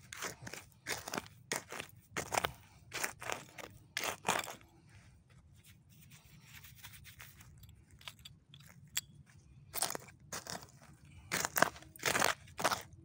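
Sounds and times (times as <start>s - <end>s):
gritty scrapes in soil: 0.0s - 8.0s, 9.4s - 12.9s.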